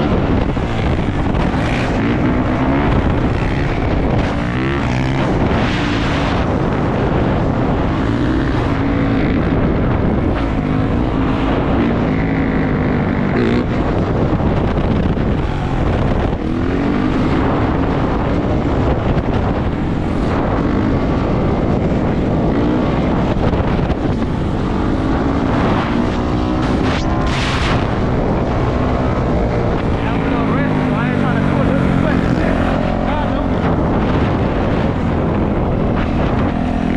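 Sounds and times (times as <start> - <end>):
dirt bike engine revving: 0.0 - 36.9
wind buffeting microphone: 0.0 - 36.9.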